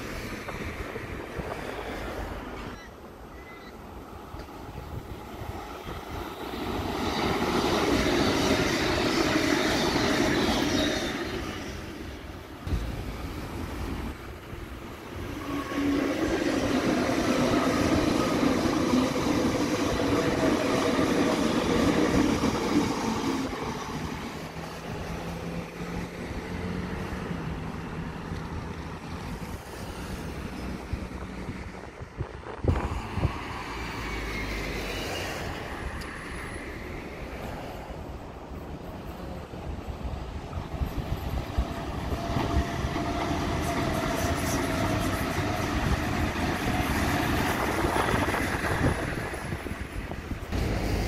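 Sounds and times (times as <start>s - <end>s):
electric train running on tracks: 0.0s - 51.0s.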